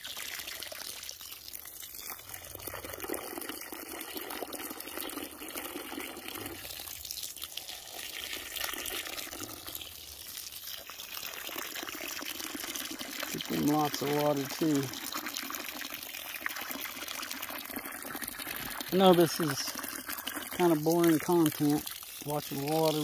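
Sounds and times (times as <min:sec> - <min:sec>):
hose water pouring onto soil: 0:00.0 - 0:23.0.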